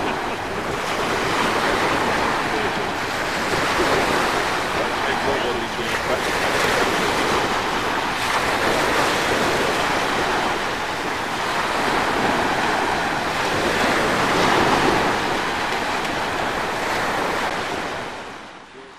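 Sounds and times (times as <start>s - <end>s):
sea waves washing onto beach: 0.0s - 18.9s.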